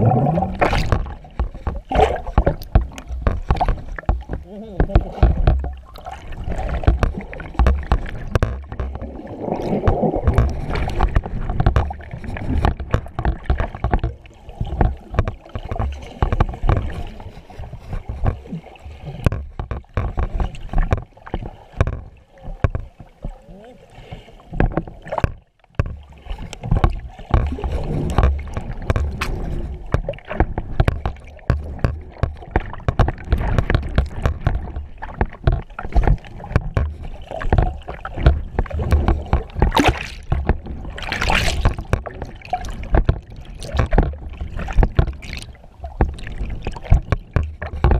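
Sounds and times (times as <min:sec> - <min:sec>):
underwater sloshing and gurgling: 0:00.0 - 0:47.9.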